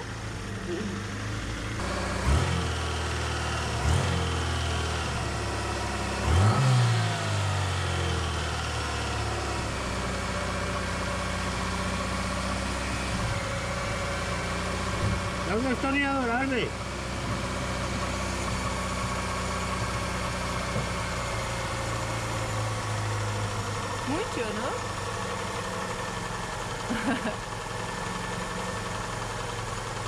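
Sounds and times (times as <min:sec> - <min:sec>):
petrol engine revving and idling: 0:00.0 - 0:30.0.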